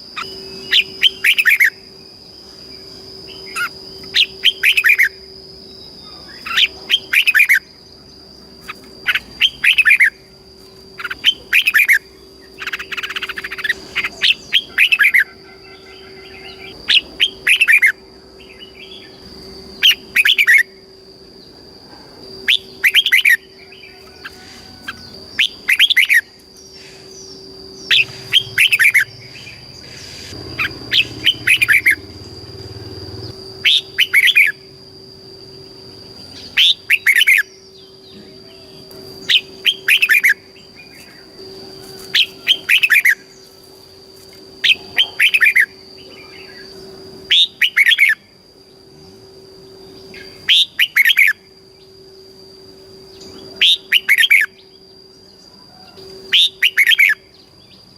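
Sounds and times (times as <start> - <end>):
bird singing whistled notes: 0.2 - 7.8, 8.6 - 10.3, 11.0 - 20.8, 22.4 - 32.3, 33.5 - 34.8, 35.5 - 43.5, 44.6 - 48.4, 49.9 - 52.0, 53.1 - 57.8.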